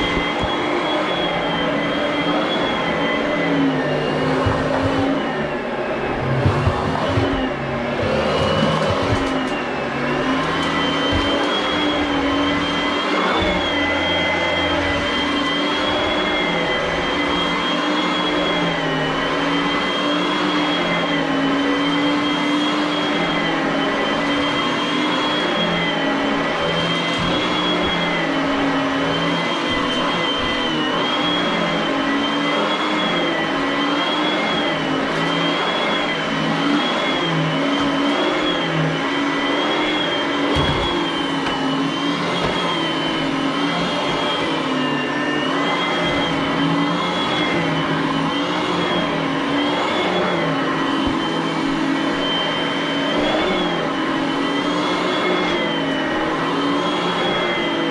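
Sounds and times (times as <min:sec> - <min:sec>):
vacuum cleaner running: 0:00.0 - 0:57.9.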